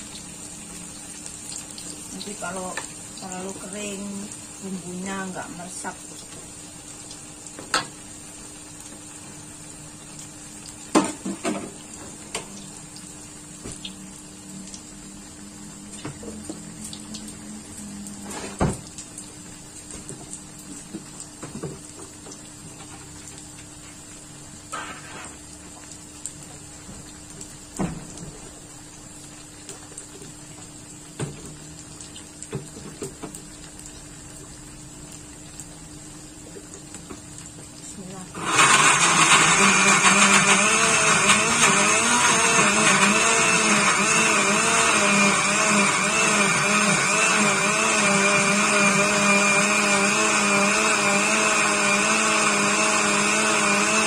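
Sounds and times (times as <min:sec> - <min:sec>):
food deep-frying in oil: 0:00.0 - 0:54.0.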